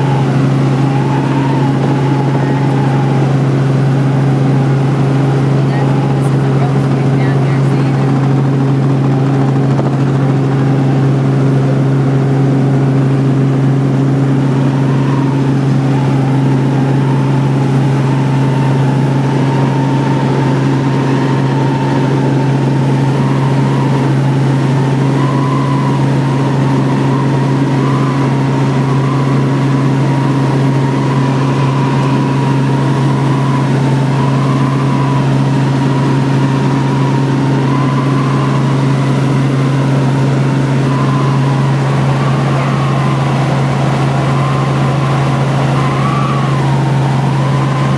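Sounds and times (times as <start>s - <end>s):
helicopter drone: 0.0s - 47.9s
helicopter whine: 0.0s - 47.9s.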